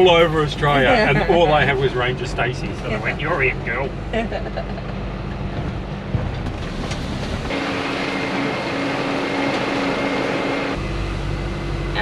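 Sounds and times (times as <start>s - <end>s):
engine and road noise in cabin: 0.0s - 12.0s.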